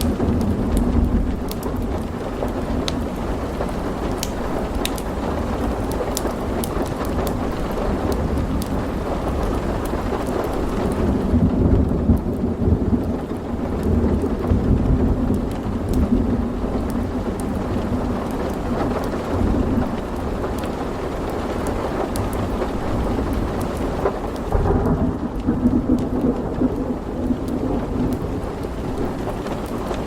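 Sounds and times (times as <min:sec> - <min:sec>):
steady rain: 0:00.0 - 0:30.0
thunder rumbling: 0:00.0 - 0:30.0
wood fire crackling: 0:00.0 - 0:30.0.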